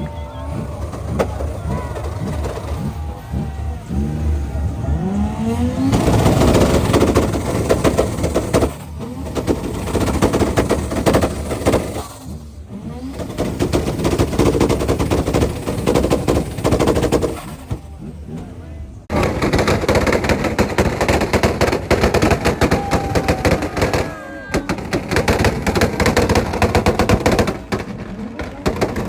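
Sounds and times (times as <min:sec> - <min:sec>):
car engine revving: 0:00.0 - 0:29.0
exhaust pops and crackles: 0:00.0 - 0:29.0.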